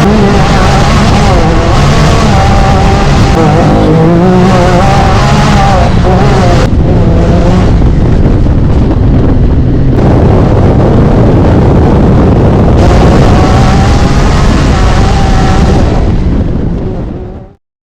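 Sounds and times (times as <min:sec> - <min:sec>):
off-road vehicle engine revving: 0:00.0 - 0:17.6.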